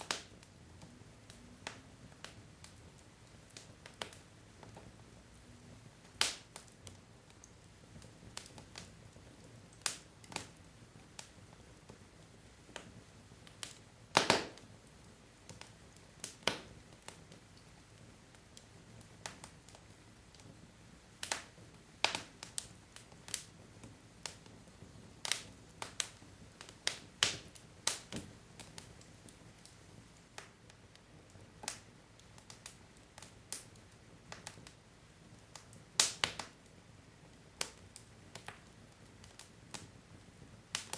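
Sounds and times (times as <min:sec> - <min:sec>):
faint steady hiss: 0:00.0 - 0:40.9
wood fire crackling: 0:00.0 - 0:40.9.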